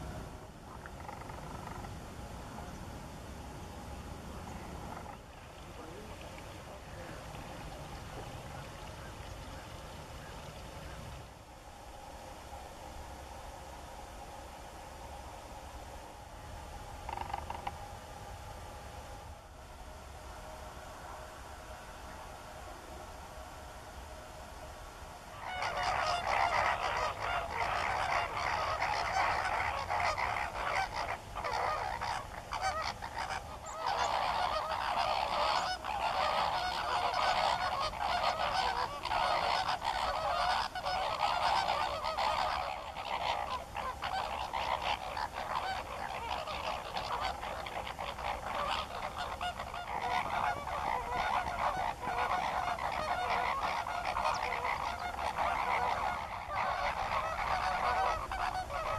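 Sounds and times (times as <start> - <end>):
flock of flamingos honking: 0.0 - 2.8, 4.2 - 11.4, 16.5 - 18.2, 20.4 - 58.9.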